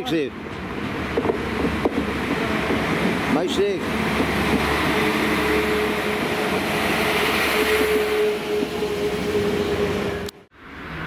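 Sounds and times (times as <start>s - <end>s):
train engine and wheel noise: 0.0s - 11.0s.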